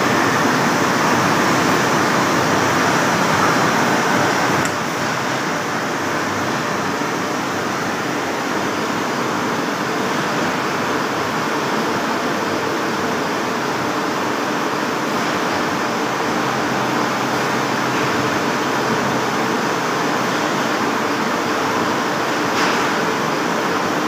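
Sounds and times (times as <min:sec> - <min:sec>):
lathe machine running: 0:00.0 - 0:24.0.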